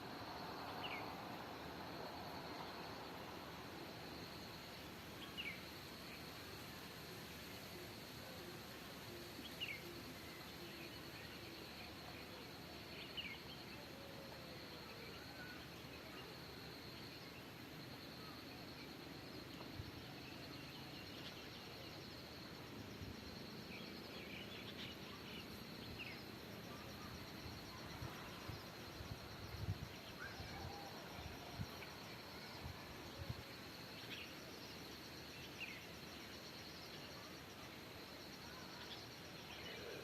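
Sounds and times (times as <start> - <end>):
high insect drone: 0.1 - 40.0.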